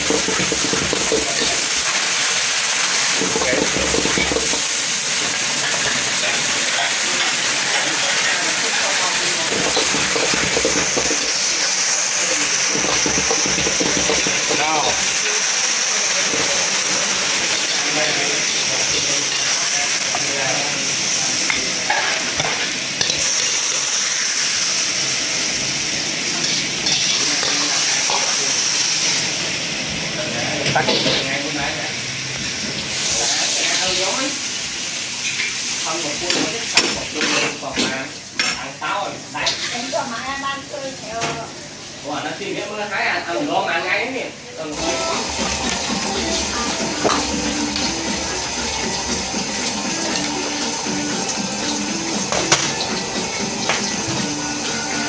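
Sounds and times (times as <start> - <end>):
greens sizzling in a wok: 0.0 - 55.0.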